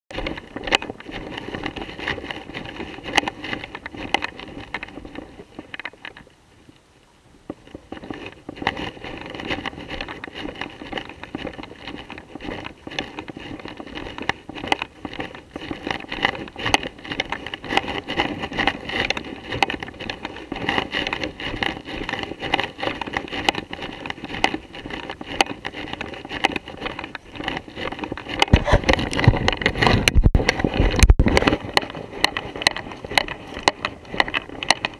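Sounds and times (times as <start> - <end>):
wind rumble on microphone: 0.1 - 34.9.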